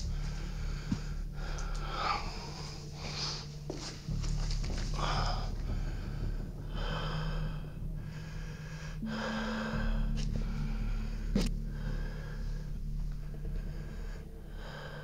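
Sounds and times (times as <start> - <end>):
person breathing heavily: 0.0 - 15.0
steady low hum: 0.0 - 15.0.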